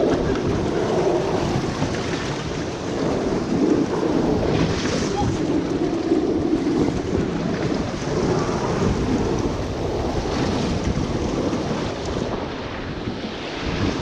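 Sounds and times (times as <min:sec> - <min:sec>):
water rushing on a slide: 0:00.0 - 0:14.0
wind buffeting microphone: 0:00.0 - 0:14.0.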